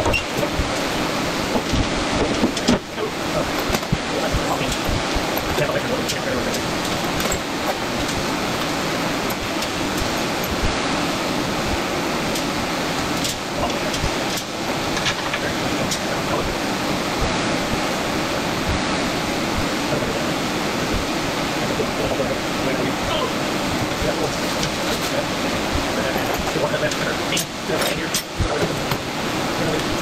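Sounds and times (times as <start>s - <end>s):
fan rushing air: 0.0s - 30.0s.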